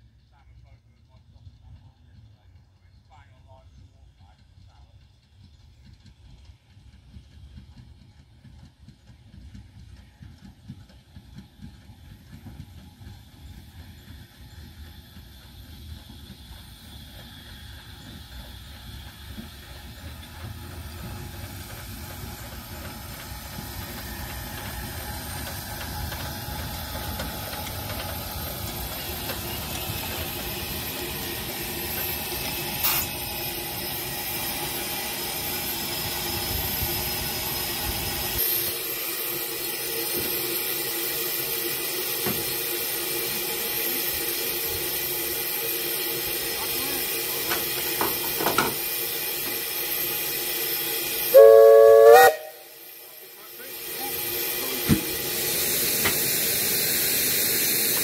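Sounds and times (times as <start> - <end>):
wheels rumbling on rails: 0.0 - 50.0
steam hissing: 3.4 - 58.0.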